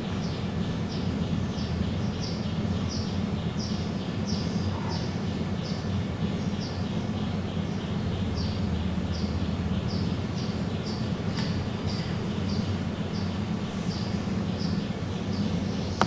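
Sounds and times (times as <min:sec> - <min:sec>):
bird chirping: 0:00.0 - 0:16.0
steady low hum: 0:00.0 - 0:16.0.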